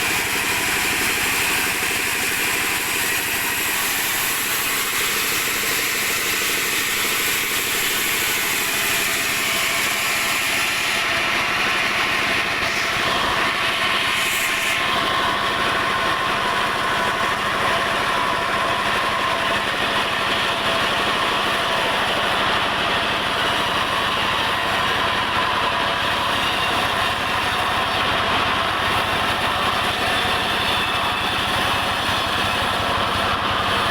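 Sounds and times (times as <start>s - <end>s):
sawmill machinery running: 0.0s - 33.9s.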